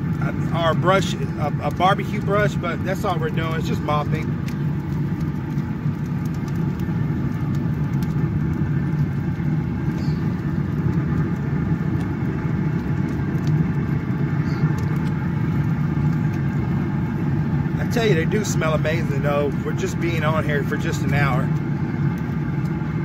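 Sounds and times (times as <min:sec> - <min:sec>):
grill fan motor hum: 0:00.0 - 0:23.0.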